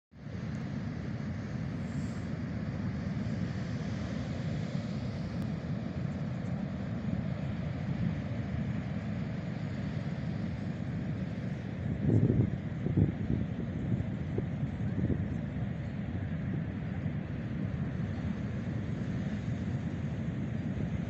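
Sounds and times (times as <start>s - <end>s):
distant ocean surf: 0.2s - 21.0s.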